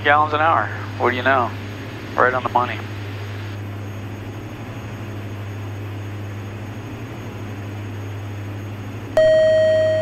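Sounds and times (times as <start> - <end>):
aircraft engines droning: 0.0 - 10.0.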